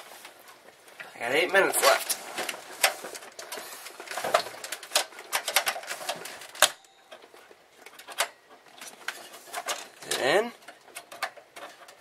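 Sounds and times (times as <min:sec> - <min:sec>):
hands handling computer parts: 0:00.0 - 0:12.0.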